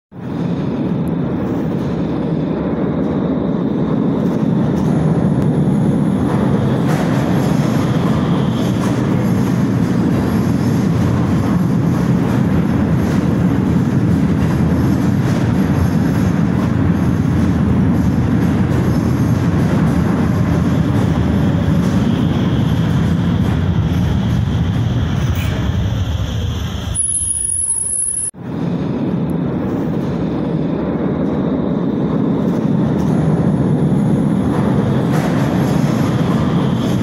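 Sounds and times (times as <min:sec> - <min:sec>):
train wheels rumbling on rails: 0:00.1 - 0:37.0.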